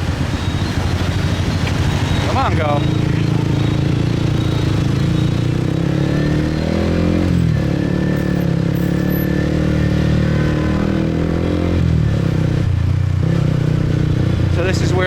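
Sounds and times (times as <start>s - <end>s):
motorcycle engine pulling away: 0.0s - 15.0s.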